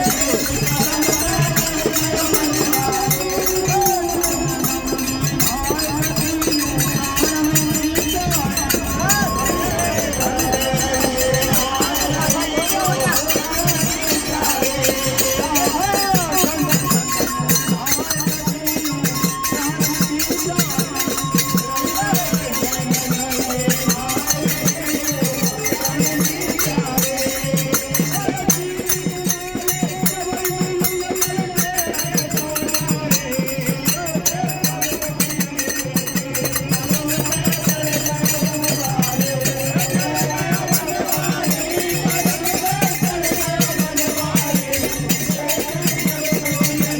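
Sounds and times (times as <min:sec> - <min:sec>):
devotional folk singing: 0:00.0 - 0:46.9
rattling hand percussion: 0:00.0 - 0:46.9.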